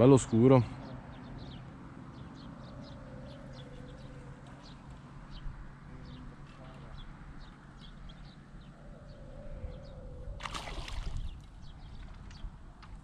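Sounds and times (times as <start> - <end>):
low outdoor background noise: 0.0 - 13.0
small birds chirping: 0.0 - 13.0.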